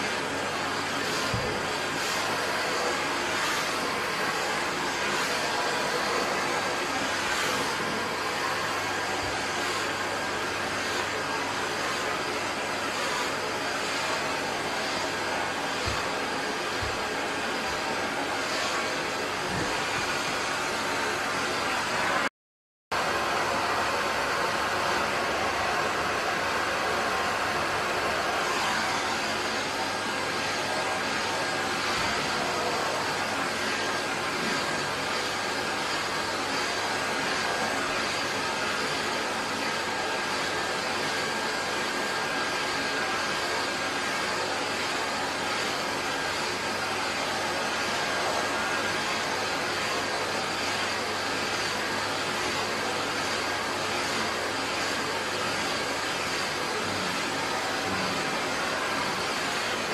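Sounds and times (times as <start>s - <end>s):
vacuum cleaner running: 0.0s - 22.3s, 22.9s - 59.9s.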